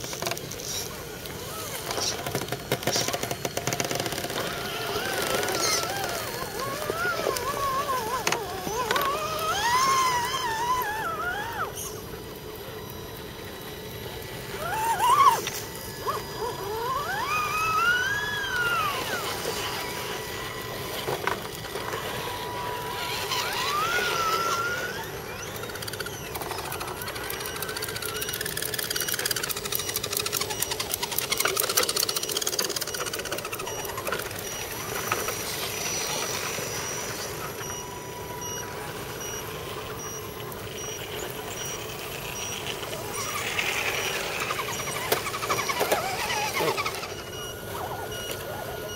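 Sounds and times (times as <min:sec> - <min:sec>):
electric motors whining: 0:00.0 - 0:48.9.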